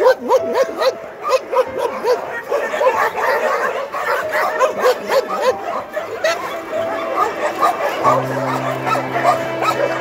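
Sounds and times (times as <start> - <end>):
background music with held notes: 0.0 - 10.0
many dogs barking and yelping: 0.0 - 10.0.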